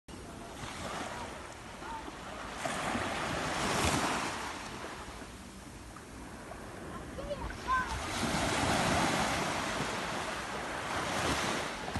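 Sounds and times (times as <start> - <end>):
ocean wave breaking on beach: 0.2 - 5.2, 6.3 - 11.9.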